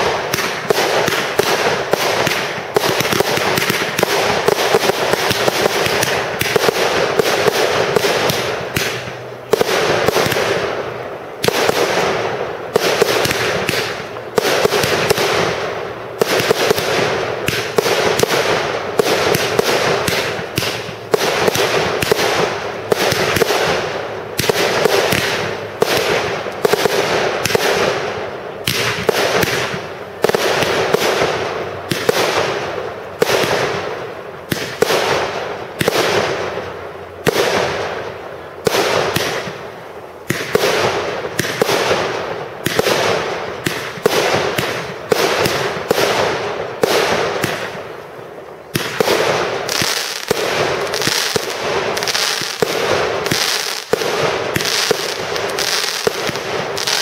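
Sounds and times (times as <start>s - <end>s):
fireworks bangs echoing: 0.0s - 57.0s
fireworks crackling: 0.0s - 57.0s.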